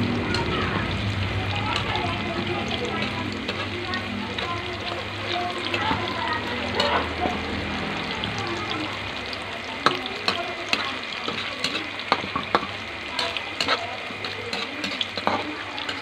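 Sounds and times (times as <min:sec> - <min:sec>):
oil popping and crackling: 0:00.0 - 0:16.0
tofu sizzling in oil: 0:00.0 - 0:16.0.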